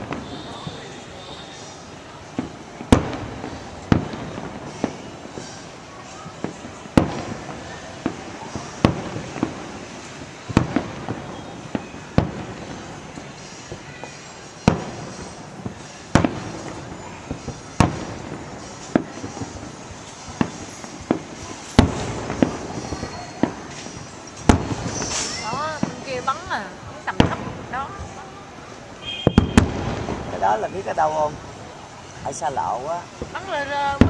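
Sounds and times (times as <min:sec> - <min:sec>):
background haze: 0:00.0 - 0:34.0
fireworks bursting with sharp bangs: 0:00.0 - 0:34.0.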